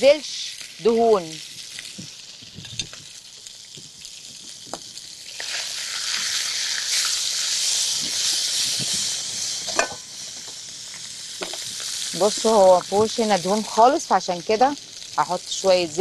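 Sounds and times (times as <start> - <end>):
sausage sizzling in a frying pan: 0.0 - 16.0.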